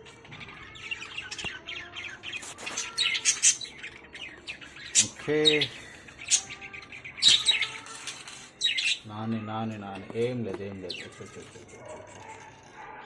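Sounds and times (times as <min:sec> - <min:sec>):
budgies chirping: 0:00.0 - 0:13.0.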